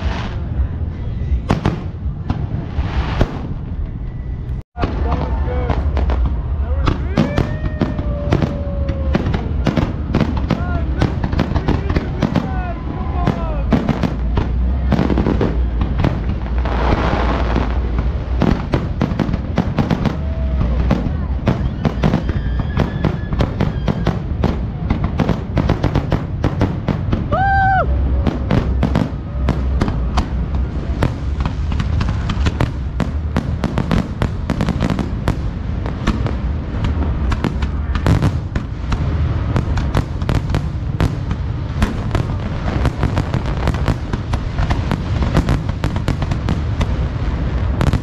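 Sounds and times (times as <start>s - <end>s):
deep rumble: 0.0s - 48.0s
fireworks bangs and crackling: 0.0s - 48.0s.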